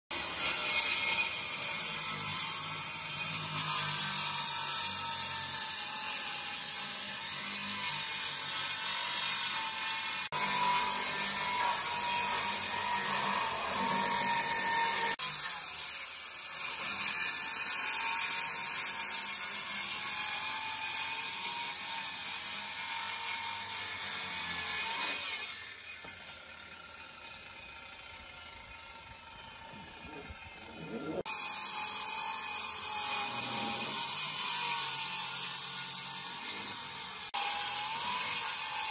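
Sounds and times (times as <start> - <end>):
circular saw cutting wood: 0.1 - 38.9.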